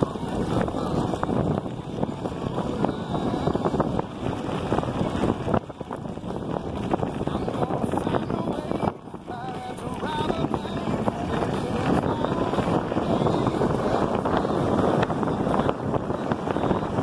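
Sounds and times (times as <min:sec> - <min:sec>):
tyres rolling on gravel: 0:00.0 - 0:17.0
wind buffeting microphone: 0:00.0 - 0:17.0.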